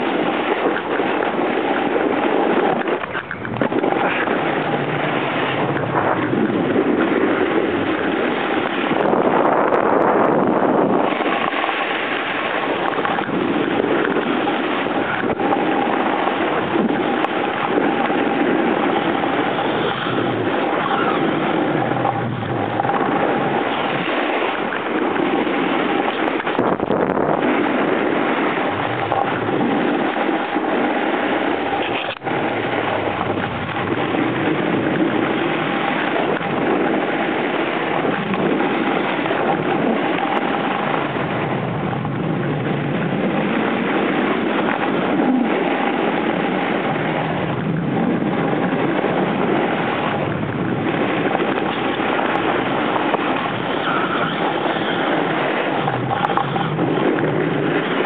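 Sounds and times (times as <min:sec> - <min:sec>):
snowboard scraping on snow: 0:00.0 - 0:58.0
wind on microphone: 0:00.0 - 0:58.0.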